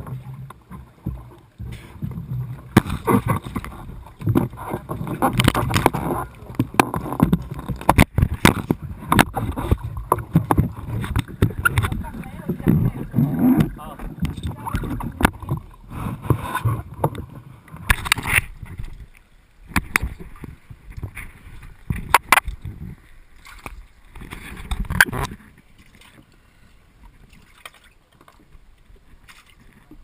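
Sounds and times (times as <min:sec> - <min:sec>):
knocks and rattles in a boat: 0:00.0 - 0:26.3, 0:27.1 - 0:30.0.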